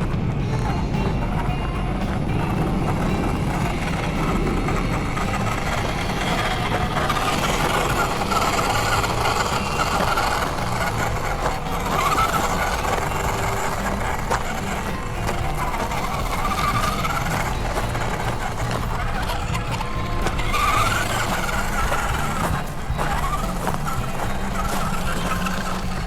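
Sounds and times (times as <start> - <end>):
toy car electric motor whining: 0.0 - 26.0.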